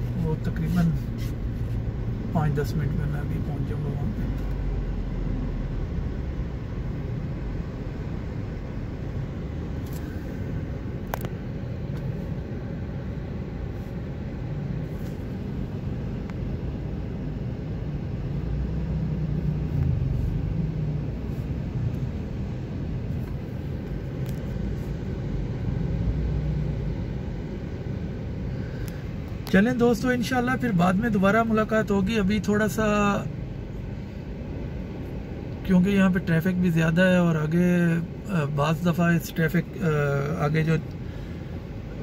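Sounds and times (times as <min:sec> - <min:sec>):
car engine low rumble: 0:00.0 - 0:42.0
road noise: 0:00.0 - 0:42.0.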